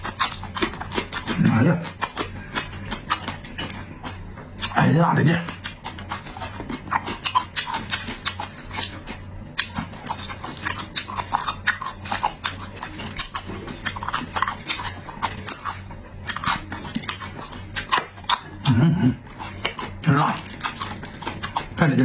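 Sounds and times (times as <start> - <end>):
mouth clicks and smacks: 0.0 - 21.8
person chewing food: 0.0 - 22.0.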